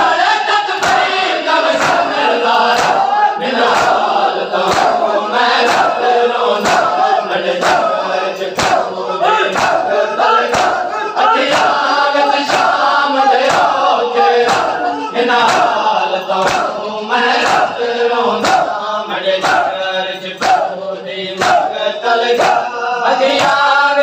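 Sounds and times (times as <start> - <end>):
men chanting in unison: 0.0 - 24.0
hands beating chests: 0.8 - 18.8, 19.4 - 19.8, 20.4 - 22.7, 23.3 - 23.7.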